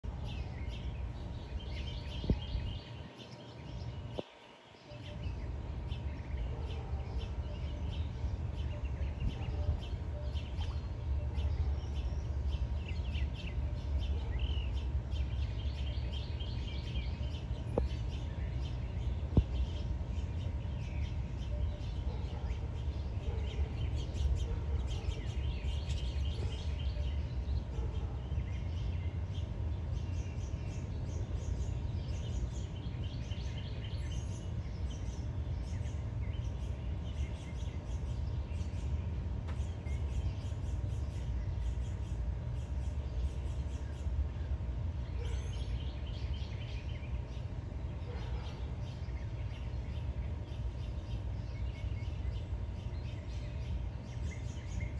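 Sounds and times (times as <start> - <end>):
songbirds chirping and trilling: 0.0 - 54.9
steady low rumble: 0.0 - 54.9.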